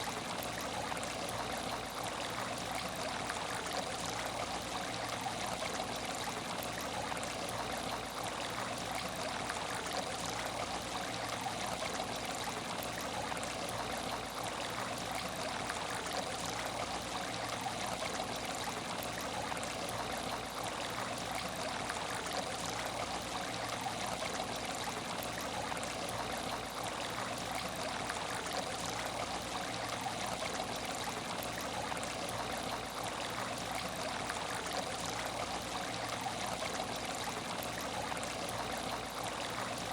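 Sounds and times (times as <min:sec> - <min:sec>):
water trickling in aquarium: 0:00.0 - 0:39.9.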